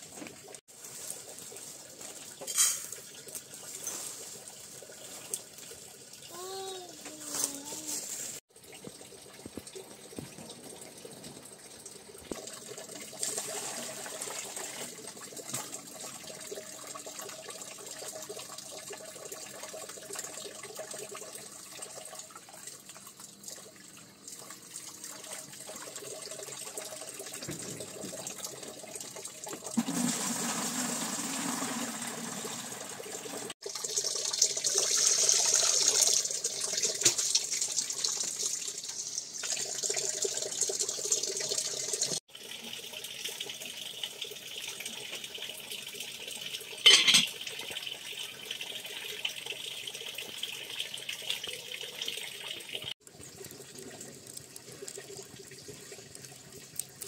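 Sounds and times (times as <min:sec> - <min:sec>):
water splashing and pouring: 0:00.0 - 0:57.0.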